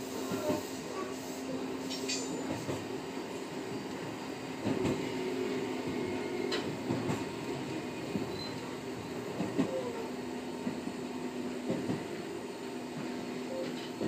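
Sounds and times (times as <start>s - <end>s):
train wheels and motor rumbling: 0.0s - 14.0s.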